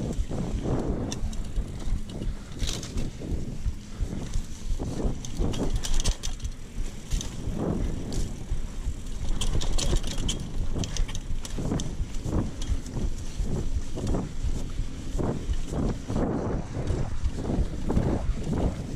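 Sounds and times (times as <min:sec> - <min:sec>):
bike clicks and rattles: 0:00.0 - 0:18.9
bike tyres rumbling on dirt: 0:00.0 - 0:18.9.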